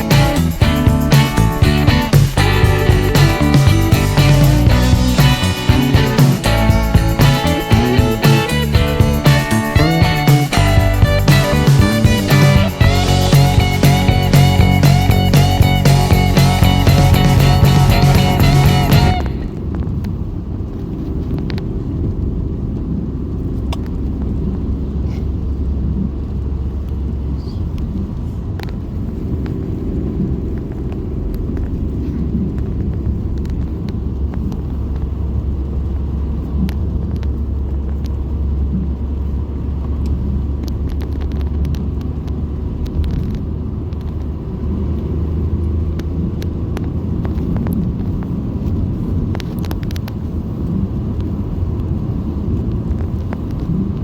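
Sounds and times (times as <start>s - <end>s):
car tyre and engine rumble: 0.0s - 12.2s, 12.8s - 54.0s.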